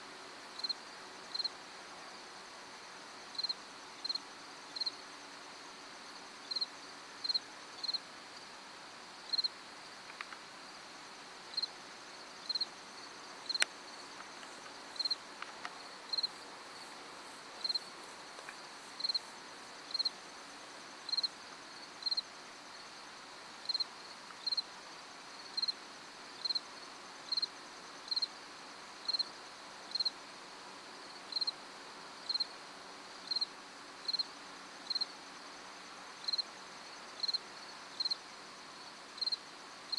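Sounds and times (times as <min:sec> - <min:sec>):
insects humming: 0:00.0 - 0:39.9
cricket chirping: 0:00.1 - 0:39.9.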